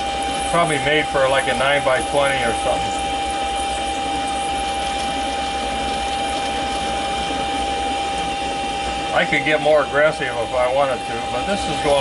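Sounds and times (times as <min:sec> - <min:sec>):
lathe cutting steel: 0:00.0 - 0:12.0
steady whine: 0:00.0 - 0:12.0.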